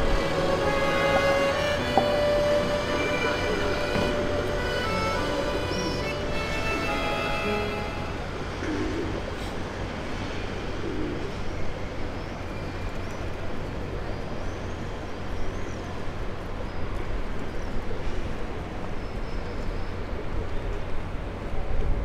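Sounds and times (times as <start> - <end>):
distant traffic hum: 0.0 - 22.0.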